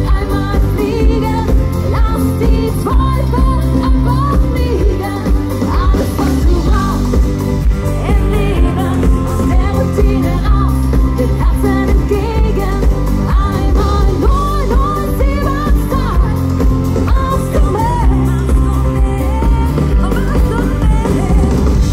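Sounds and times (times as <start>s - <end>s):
live pop band playing: 0.0s - 21.9s
person singing lead vocal: 0.0s - 21.9s.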